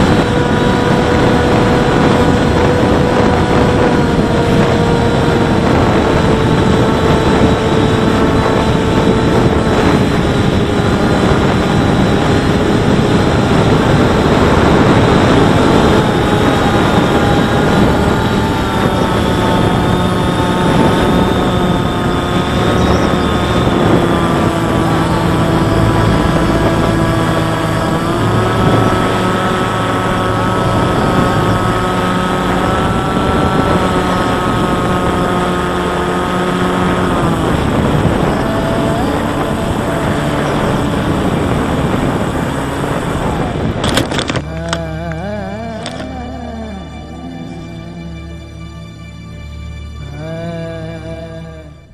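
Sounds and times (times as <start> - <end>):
wind noise: 0.0 - 49.1
electric motor and propeller whining: 0.0 - 51.9.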